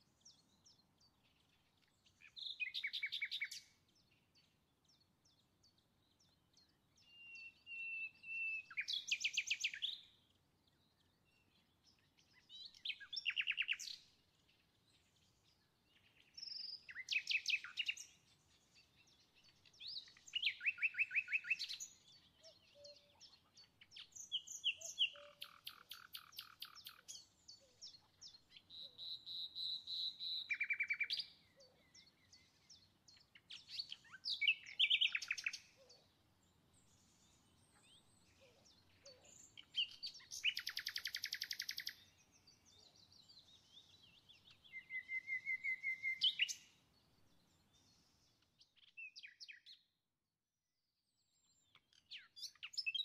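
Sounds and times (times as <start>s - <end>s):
songbird singing trills: 0.0s - 50.0s, 51.1s - 53.0s.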